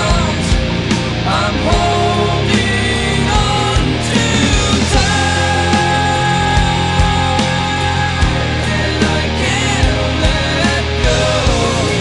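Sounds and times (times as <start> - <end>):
rock music: 0.0 - 12.0
steady drum beat: 0.0 - 12.0.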